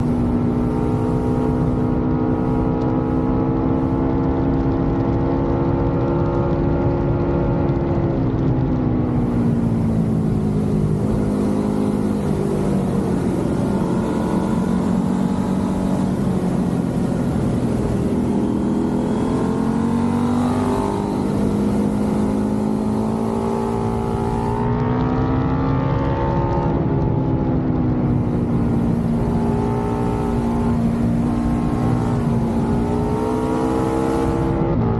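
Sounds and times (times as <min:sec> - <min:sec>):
motorcycle engine revving: 0:00.0 - 0:34.9
wind noise: 0:00.0 - 0:34.9.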